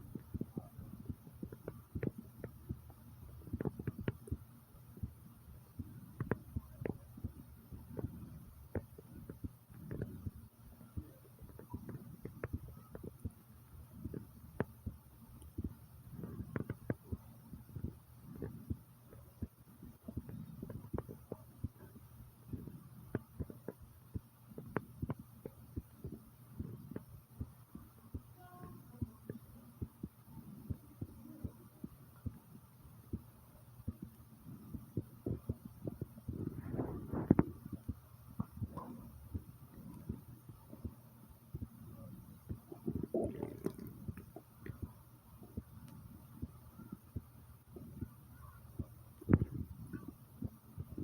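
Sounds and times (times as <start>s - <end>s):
heartbeat thumps: 0.0s - 51.0s
low steady hum: 0.0s - 51.0s.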